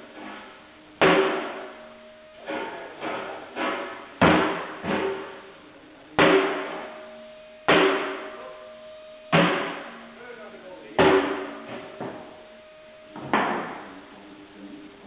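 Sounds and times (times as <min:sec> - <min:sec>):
hammer striking metal stove: 0:00.0 - 0:05.5, 0:06.2 - 0:10.1, 0:11.0 - 0:14.0.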